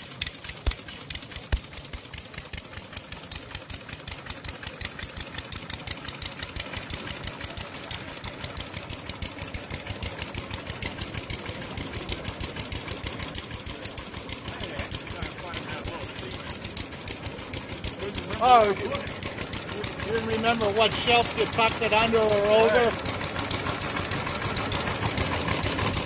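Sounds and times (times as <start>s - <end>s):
model gas engine running: 0.0s - 26.0s.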